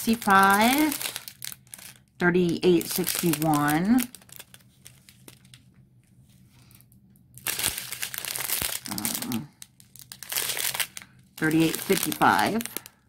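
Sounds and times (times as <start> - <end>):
plastic bags crinkling: 0.0 - 6.1, 6.9 - 13.0.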